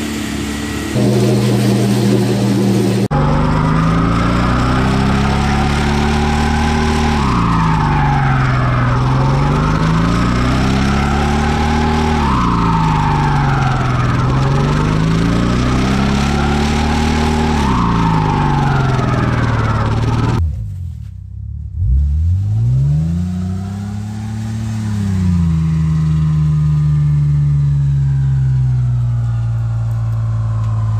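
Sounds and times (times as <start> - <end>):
engine revving in a burnout: 0.0 - 20.6, 21.7 - 30.9
engine idling: 0.0 - 21.4, 26.2 - 30.9.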